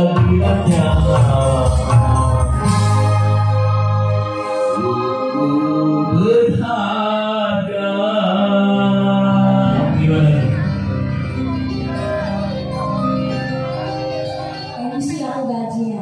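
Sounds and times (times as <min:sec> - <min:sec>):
person singing: 0:00.0 - 0:14.9
electronic keyboard chords: 0:00.0 - 0:16.0.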